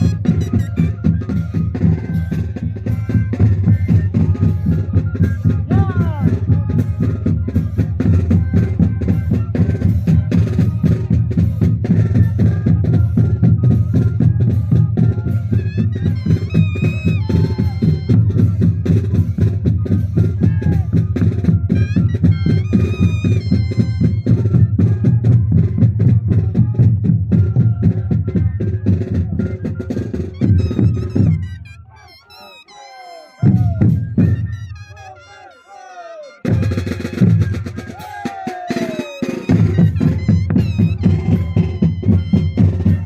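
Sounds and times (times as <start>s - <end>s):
drums beating: 0.0s - 43.0s
wind instruments playing: 0.0s - 43.0s.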